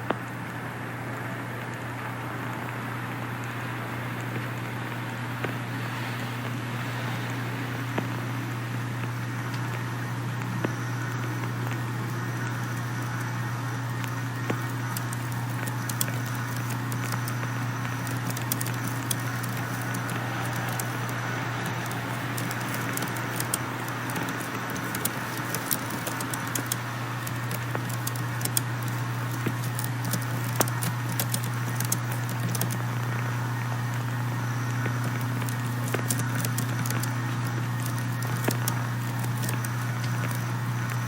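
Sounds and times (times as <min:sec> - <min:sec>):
small crackles and clicks: 0:00.0 - 0:41.0
steady low hum: 0:00.0 - 0:41.0.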